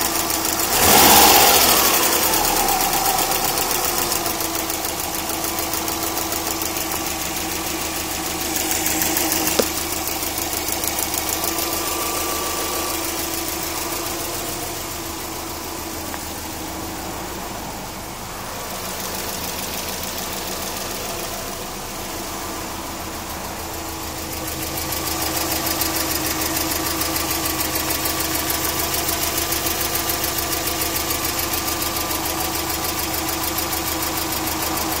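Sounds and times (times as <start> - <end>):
engine idling with rapid ticking: 0.0 - 35.0.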